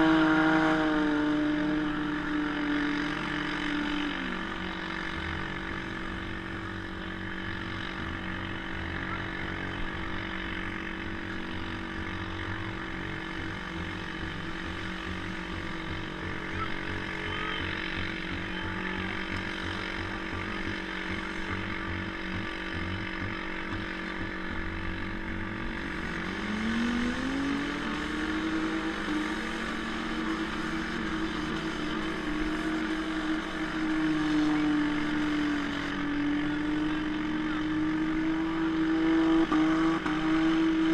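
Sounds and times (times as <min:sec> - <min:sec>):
car engine idling and revving: 0:00.0 - 0:40.9
other engines running: 0:00.0 - 0:40.9.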